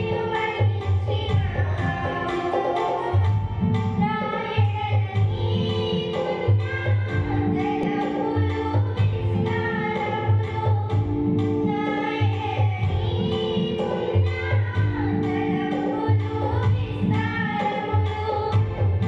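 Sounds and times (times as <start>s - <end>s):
held chords: 0.0s - 19.0s
women singing into microphones: 0.0s - 19.0s.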